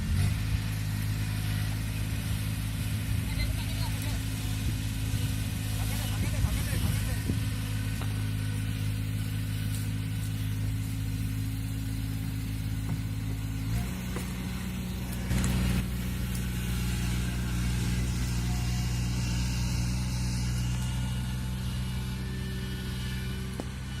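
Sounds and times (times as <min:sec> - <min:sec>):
combine harvester diesel engine: 0:00.0 - 0:24.0.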